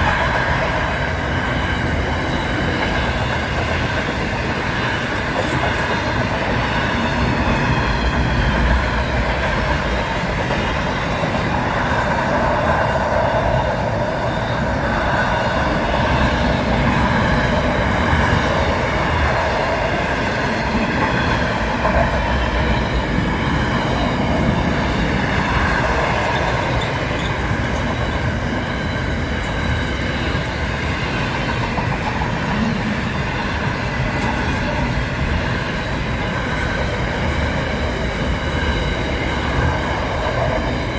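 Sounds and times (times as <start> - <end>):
train running on rails: 0.0 - 40.9.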